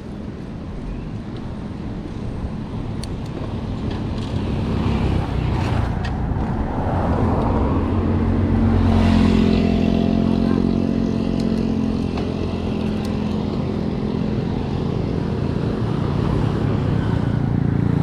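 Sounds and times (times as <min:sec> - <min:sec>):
road traffic noise: 0:00.0 - 0:18.0
vehicle engine hum: 0:00.0 - 0:18.0.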